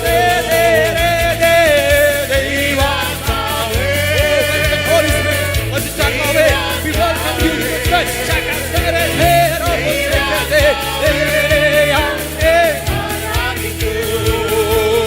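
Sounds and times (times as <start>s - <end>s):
worship band playing: 0.0s - 15.0s
drum beat: 0.1s - 15.0s
person singing melody: 2.4s - 15.0s.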